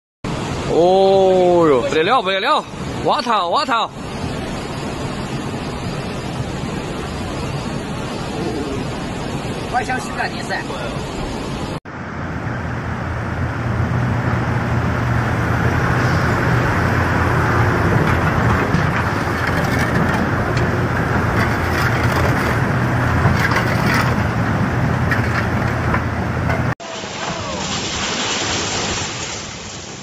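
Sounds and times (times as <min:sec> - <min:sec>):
river in flood roaring: 0:00.3 - 0:30.0.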